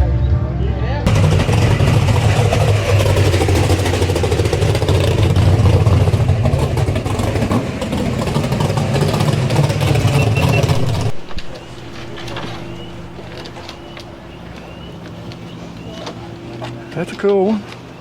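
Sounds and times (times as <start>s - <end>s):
car engine running loudly: 1.1s - 17.1s.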